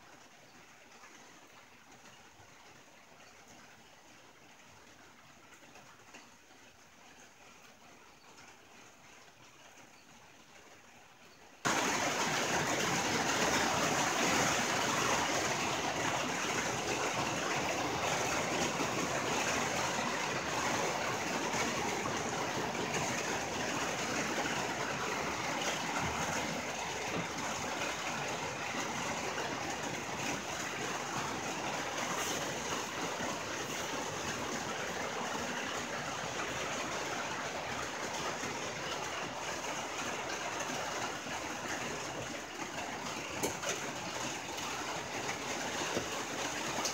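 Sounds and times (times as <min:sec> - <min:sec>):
rain on a tin roof: 0:00.0 - 0:46.9.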